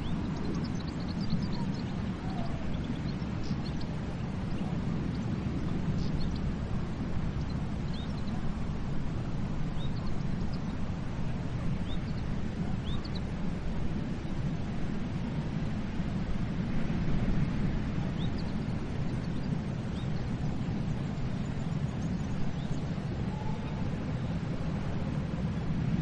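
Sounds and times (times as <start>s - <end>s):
sea surf rumbling: 0.0s - 26.0s.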